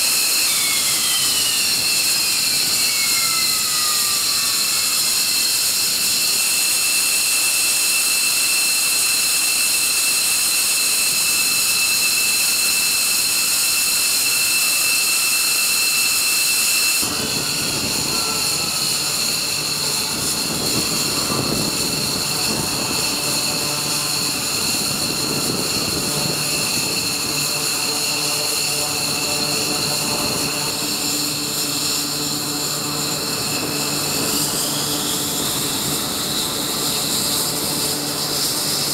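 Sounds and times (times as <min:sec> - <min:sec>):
jet engines idling whine: 0:00.0 - 0:38.9.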